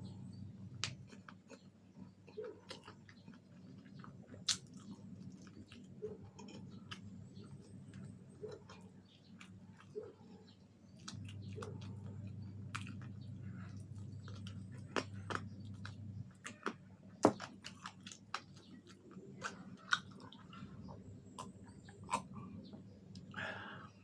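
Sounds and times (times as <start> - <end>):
chewing and crunching food: 0.0 - 24.0
low steady hum: 0.0 - 24.0.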